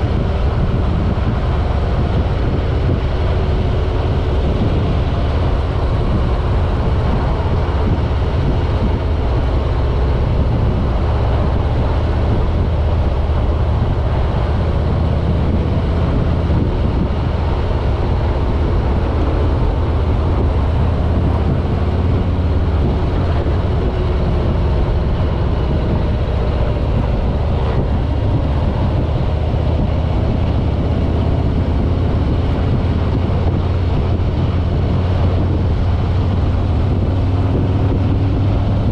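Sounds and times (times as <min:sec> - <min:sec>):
motorcycle engine rumbling: 0:00.0 - 0:38.9
road noise: 0:00.0 - 0:38.9.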